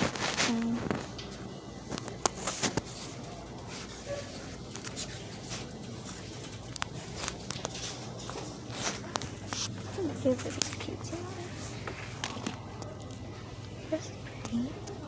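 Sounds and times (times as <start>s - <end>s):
merchandise clicking and rustling: 0.0s - 15.0s
store background hum: 0.0s - 15.0s.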